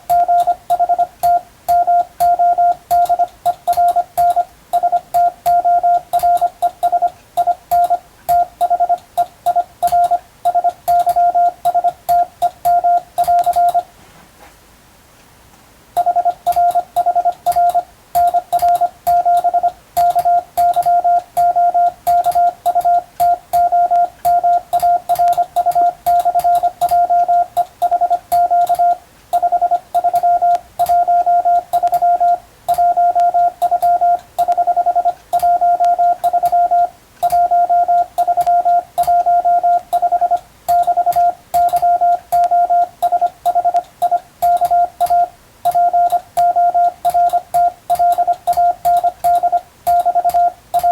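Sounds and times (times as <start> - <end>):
morse code beeps: 0.0 - 13.9, 16.0 - 50.9
faint keying clicks: 0.1 - 13.9, 16.0 - 50.9.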